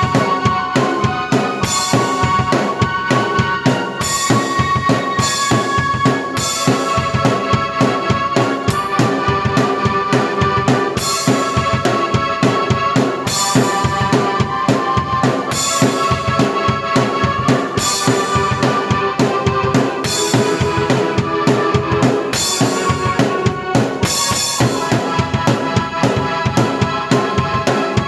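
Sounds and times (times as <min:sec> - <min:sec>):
drum kit playing: 0:00.0 - 0:28.0
sustained keyboard notes: 0:00.0 - 0:28.0.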